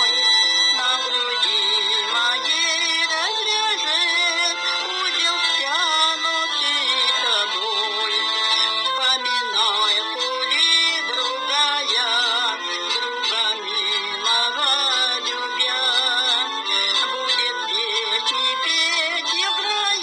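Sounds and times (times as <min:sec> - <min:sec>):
recorded backing track: 0:00.0 - 0:20.0.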